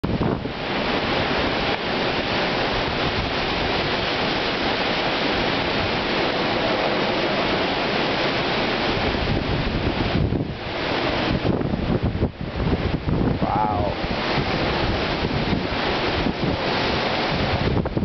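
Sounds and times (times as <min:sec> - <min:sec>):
strong wind through trees: 0:00.0 - 0:18.0.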